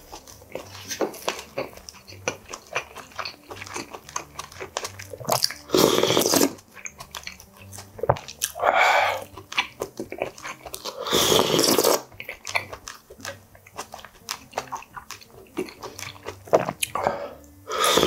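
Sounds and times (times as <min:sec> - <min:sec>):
wet chewing and smacking: 0:00.0 - 0:17.6
slurping soup: 0:00.0 - 0:18.0.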